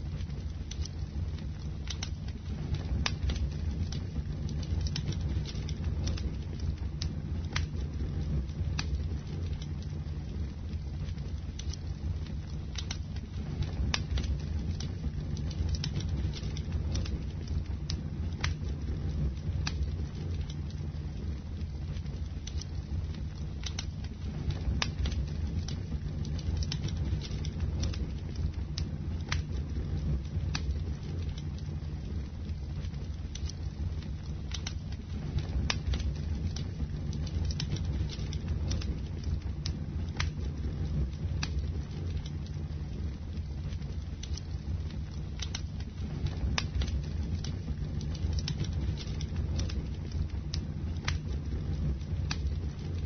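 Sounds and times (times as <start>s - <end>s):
bonfire burning with crackles: 0.0s - 53.0s
fire rumbling: 0.0s - 53.0s.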